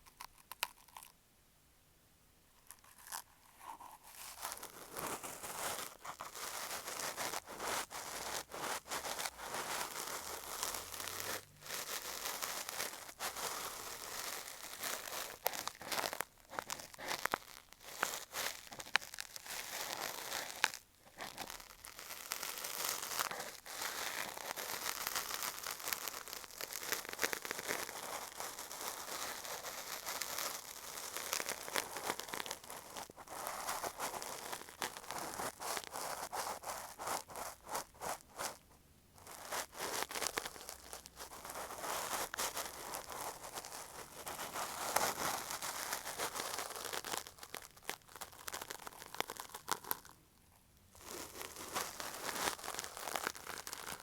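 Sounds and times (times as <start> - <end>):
cotton swab scraping microphone: 2.7 - 38.7, 39.3 - 47.0.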